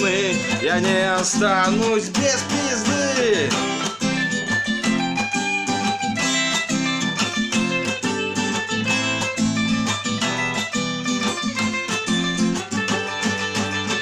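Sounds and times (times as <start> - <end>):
strummed guitar chords: 0.0 - 14.0.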